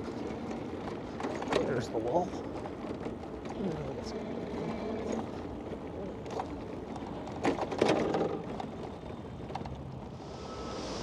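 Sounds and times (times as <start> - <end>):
traffic and road noise: 0.0 - 11.0.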